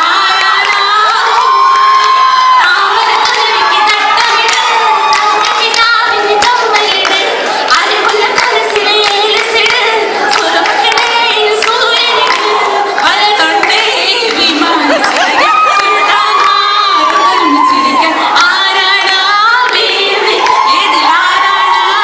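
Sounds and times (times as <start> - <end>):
crowd clapping along: 0.0 - 22.0
crowd singing and shouting: 0.0 - 22.0.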